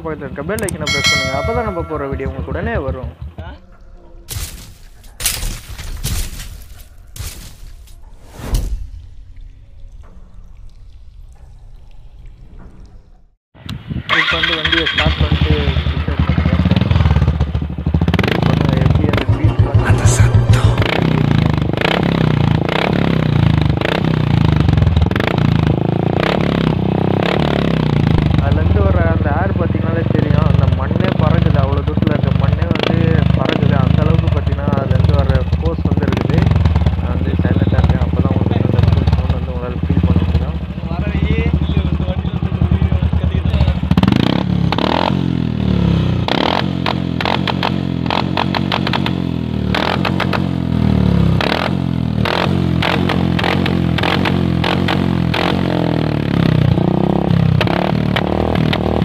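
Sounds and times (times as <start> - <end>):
motorcycle engine running: 0.0 - 3.6, 14.1 - 59.0
sharp exhaust cracks: 8.7 - 59.0.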